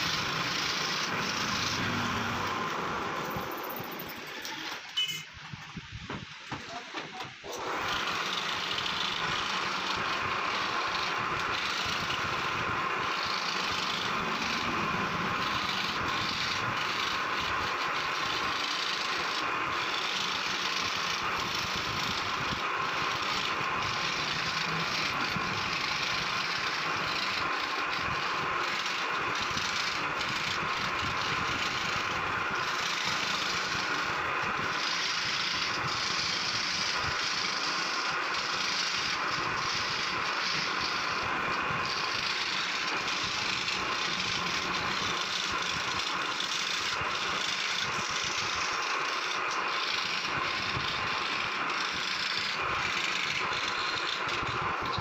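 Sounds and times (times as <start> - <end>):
scroll saw cutting wood: 0.0 - 5.1, 6.4 - 55.0.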